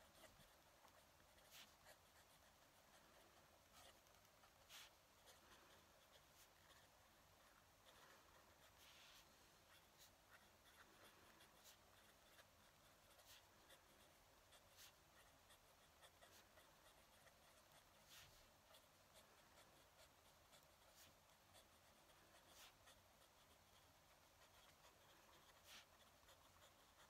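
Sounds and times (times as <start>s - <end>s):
pen nib scratching paper: 0.0s - 27.0s.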